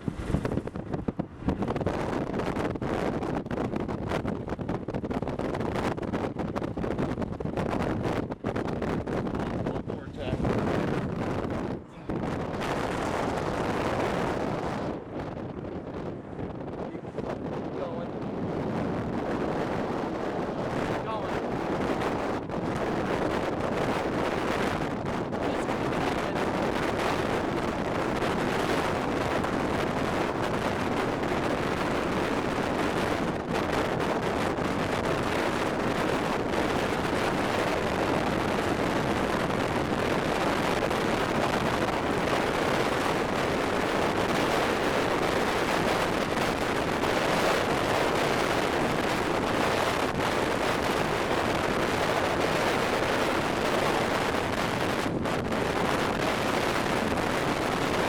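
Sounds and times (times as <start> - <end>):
storm wind on microphone: 0.0 - 58.0.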